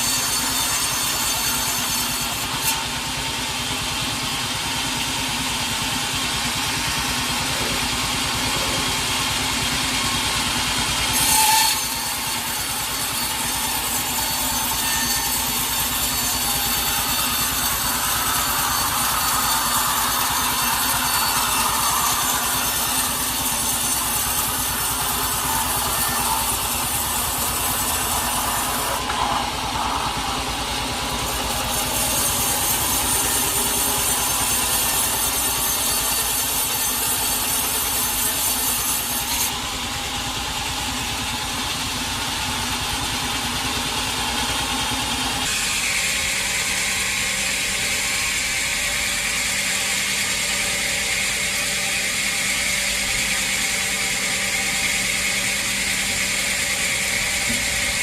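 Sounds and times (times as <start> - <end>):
sawmill machinery sawing timber: 0.0 - 58.0.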